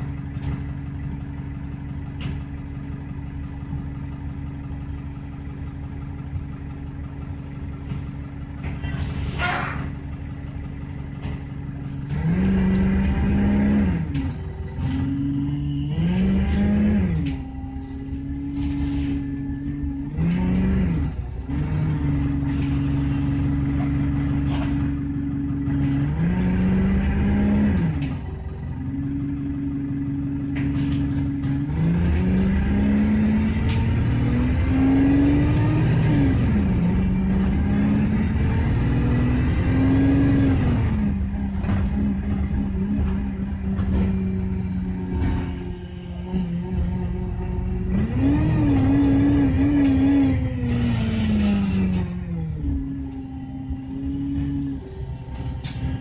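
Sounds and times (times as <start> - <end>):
bus engine shifting gears: 0.0 - 56.0.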